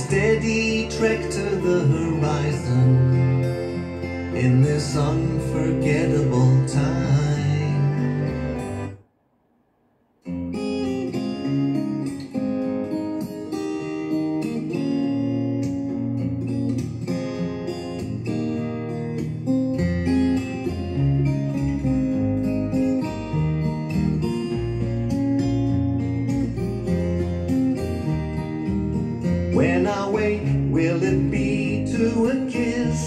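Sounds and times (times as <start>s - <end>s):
acoustic guitar picking: 0.0s - 9.0s, 10.2s - 33.0s.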